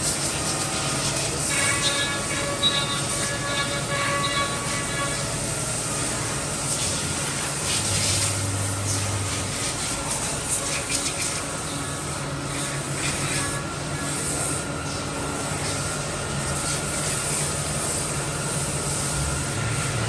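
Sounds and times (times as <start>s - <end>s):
machine hissing over low hum: 0.0s - 20.0s.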